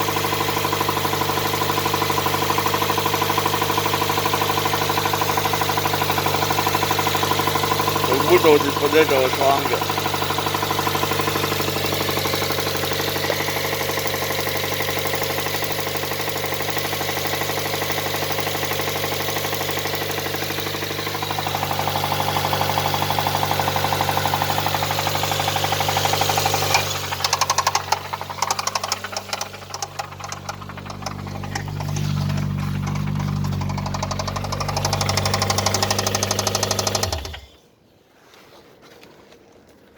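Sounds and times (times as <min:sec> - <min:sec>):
car engine knocking: 0:00.0 - 0:37.5
low engine hum: 0:00.0 - 0:37.5.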